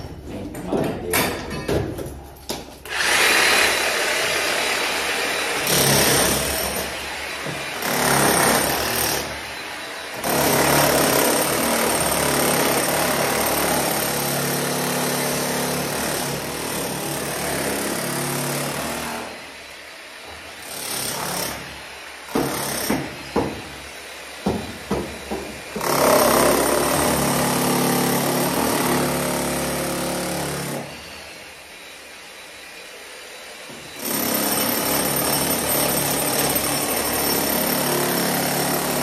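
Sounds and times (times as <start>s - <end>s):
jackhammer hammering into wall: 2.9s - 19.4s, 20.2s - 31.0s, 33.9s - 39.0s.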